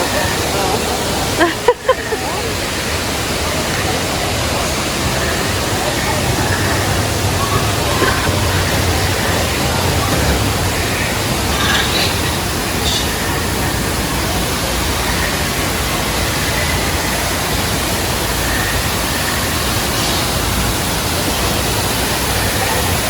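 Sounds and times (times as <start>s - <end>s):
faint voices: 0.0s - 23.0s
steady rushing noise: 0.0s - 23.0s.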